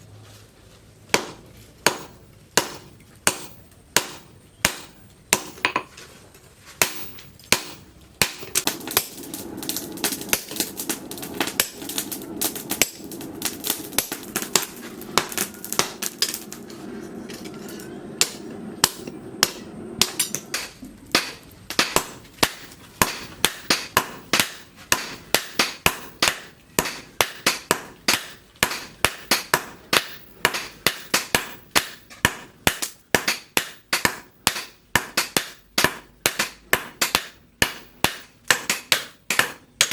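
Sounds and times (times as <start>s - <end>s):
steady hum: 6.8s - 39.9s.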